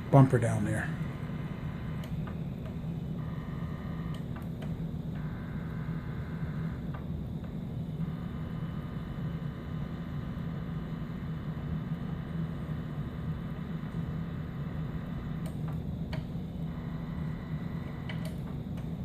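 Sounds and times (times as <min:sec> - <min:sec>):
electrical hum with motor whir: 0:00.0 - 0:19.0.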